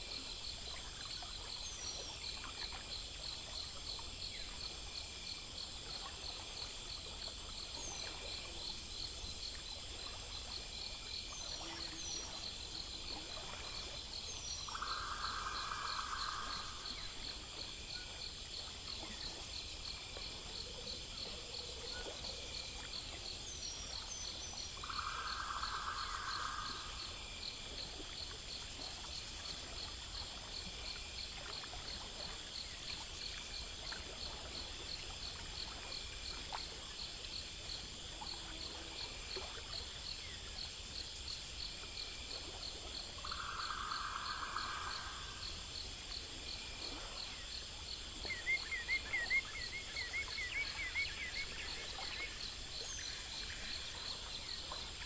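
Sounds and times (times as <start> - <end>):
crickets trilling: 0.0 - 55.0
faint running water: 0.0 - 55.0.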